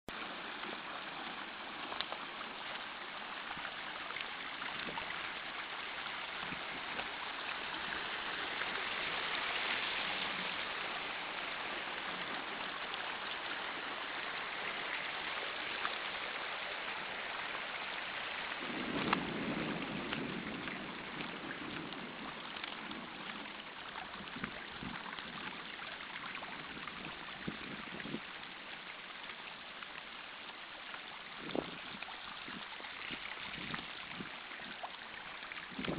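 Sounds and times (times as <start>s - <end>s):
water rushing over stones: 0.1s - 35.9s.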